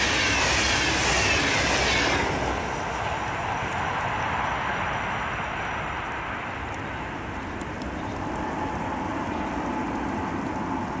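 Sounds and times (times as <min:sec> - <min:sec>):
passing train rolling: 0:00.0 - 0:11.0.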